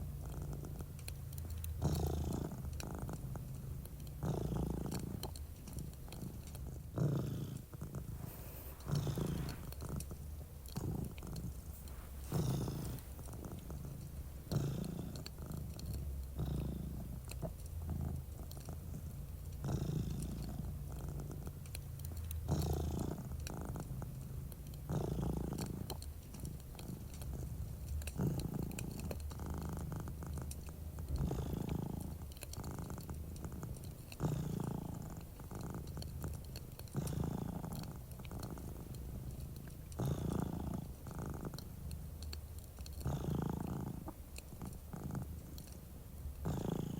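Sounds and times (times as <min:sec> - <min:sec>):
cat purring: 0:00.0 - 0:46.9
fireplace crackling: 0:00.0 - 0:46.9.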